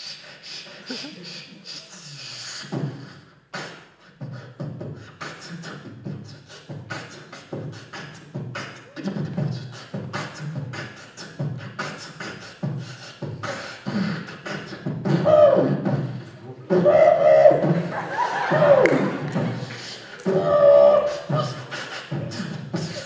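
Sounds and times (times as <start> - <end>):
beatboxing into a microphone: 0.0 - 23.0.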